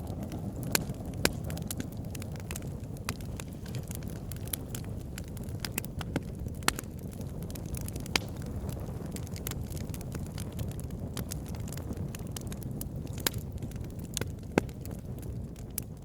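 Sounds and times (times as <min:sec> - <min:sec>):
campfire crackling: 0:00.0 - 0:16.0
sharp snaps and pops: 0:00.0 - 0:16.0.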